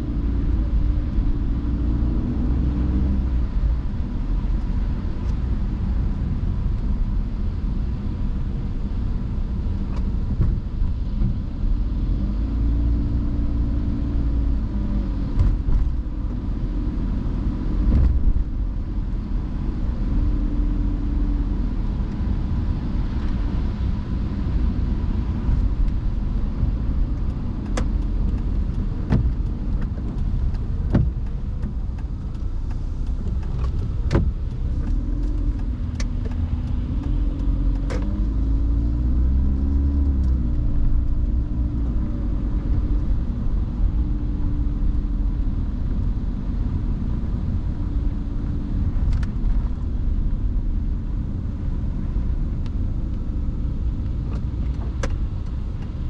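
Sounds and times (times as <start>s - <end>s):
car driving on wet road: 0.0s - 56.0s.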